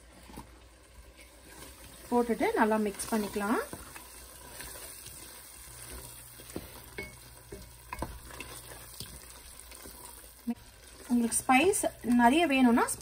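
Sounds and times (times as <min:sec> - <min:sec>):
faint sizzle: 0:00.0 - 0:13.0
wooden spatula scraping pot: 0:01.1 - 0:13.0.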